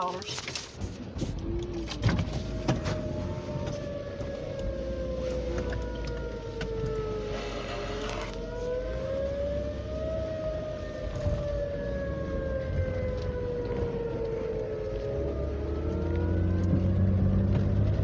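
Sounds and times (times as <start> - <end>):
warning siren wailing: 1.4 - 18.0.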